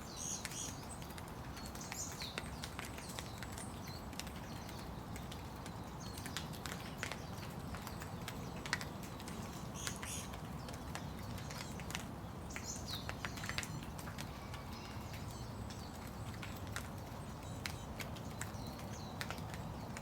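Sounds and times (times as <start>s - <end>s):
bird chirping: 0.0s - 20.0s
raindrops ticking close by: 0.0s - 20.0s
steady rain: 0.0s - 20.0s.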